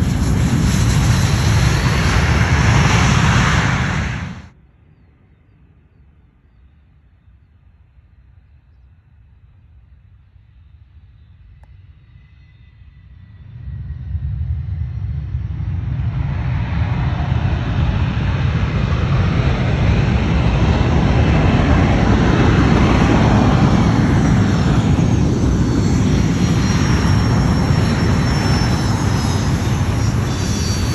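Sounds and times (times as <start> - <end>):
jet engines roaring and whining: 0.0 - 4.6, 10.5 - 30.9.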